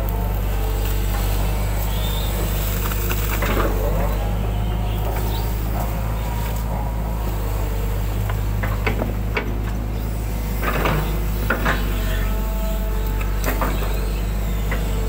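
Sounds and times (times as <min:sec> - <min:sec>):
excavator diesel engine running: 0:00.0 - 0:15.0
excavator arm creaks and knocks: 0:00.9 - 0:15.0.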